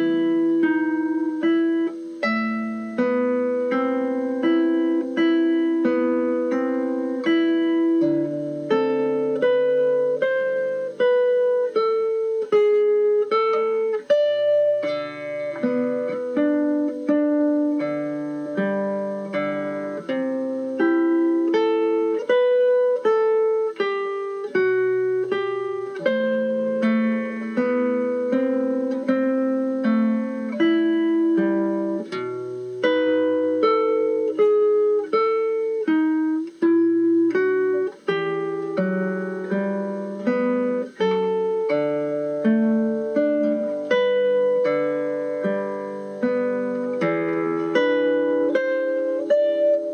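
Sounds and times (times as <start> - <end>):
gentle plucked instrumental melody: 0.0 - 49.9.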